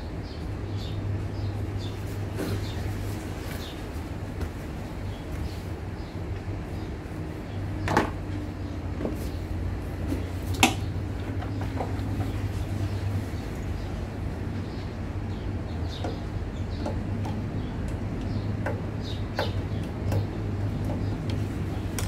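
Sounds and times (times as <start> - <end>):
birds calling: 0.0 - 22.0
steady low hum: 0.0 - 22.0.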